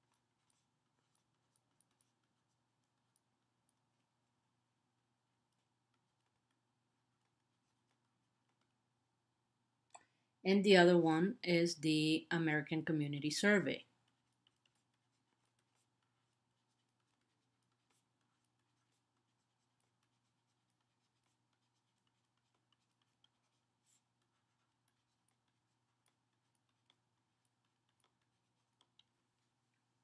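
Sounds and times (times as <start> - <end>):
soft clicks and scratches: 0.0 - 9.0, 12.8 - 30.0.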